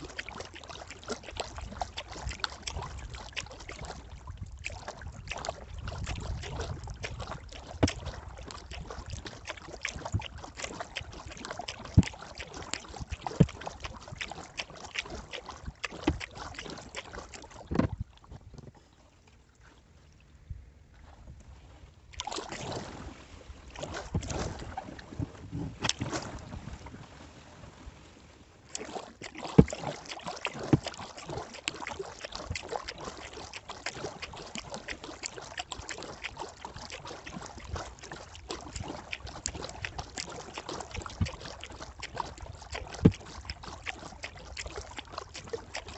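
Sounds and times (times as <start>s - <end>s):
water dripping off paddle: 0.0s - 18.4s, 22.1s - 22.7s, 23.7s - 24.6s, 28.7s - 45.9s
paddle splashing in water: 0.0s - 45.9s.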